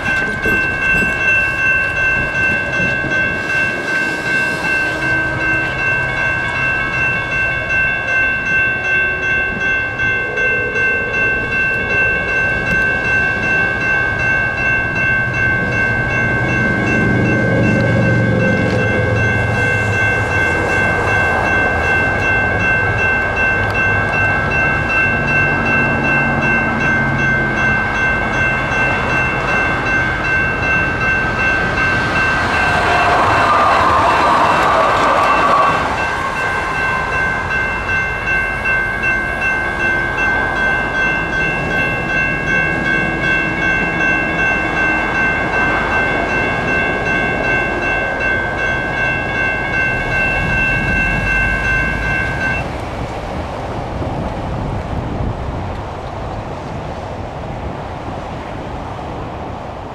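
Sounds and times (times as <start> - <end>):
railroad crossing bells ringing: 0.0 - 55.6
light rail train passing: 0.0 - 59.9.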